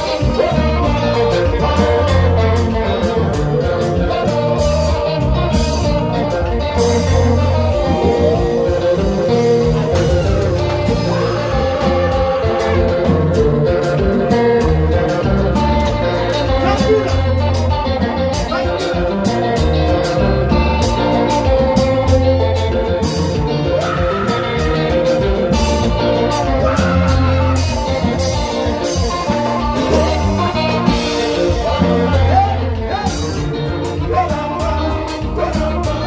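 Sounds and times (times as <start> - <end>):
bass: 0.0 - 36.0
drums: 0.0 - 36.0
electric guitar lead line: 0.0 - 36.0.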